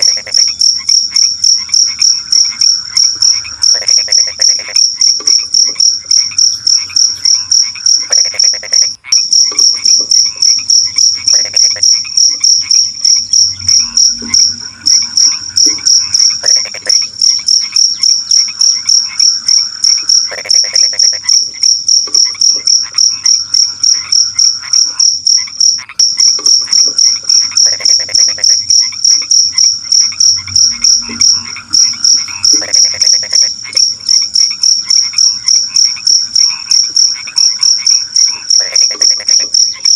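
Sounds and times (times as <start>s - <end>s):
crickets chirping: 0.0s - 39.9s
frogs croaking: 0.0s - 39.9s.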